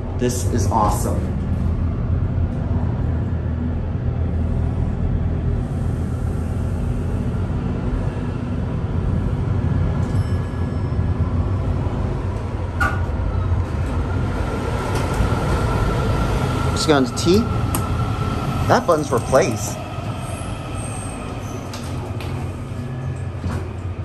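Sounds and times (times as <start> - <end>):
elevator machinery humming: 0.0 - 24.0.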